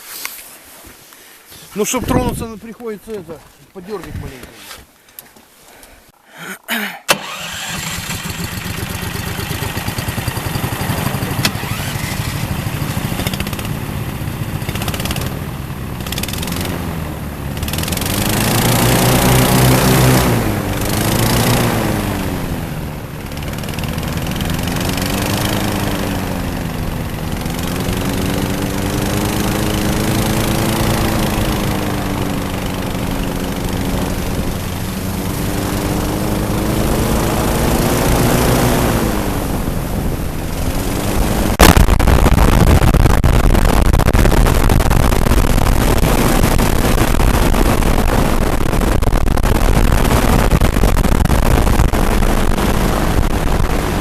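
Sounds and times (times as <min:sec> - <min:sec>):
loud rush of noise: 0:06.4 - 0:54.0
airboat engines revving: 0:07.1 - 0:54.0.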